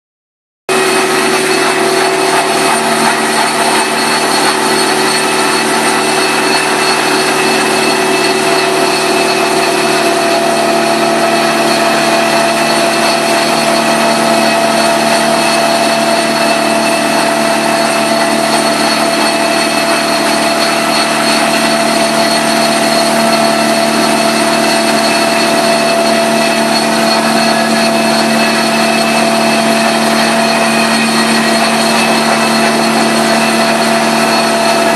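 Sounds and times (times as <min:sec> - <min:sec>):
carpet extractor whine: 0:00.7 - 0:34.9.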